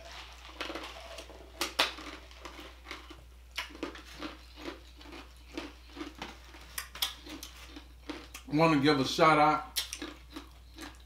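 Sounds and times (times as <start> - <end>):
chewing mouth sounds: 0.0 - 8.5, 9.7 - 11.0.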